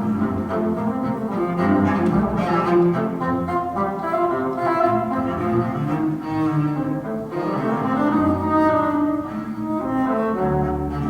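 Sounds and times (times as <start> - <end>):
classical music with bowed strings: 0.0 - 11.0.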